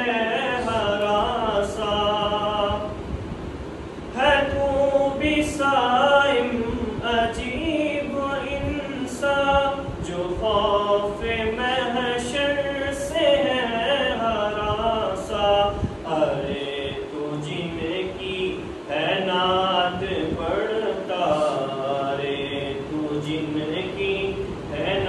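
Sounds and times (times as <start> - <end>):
men singing devotional chant: 0.0 - 3.0, 4.1 - 25.0.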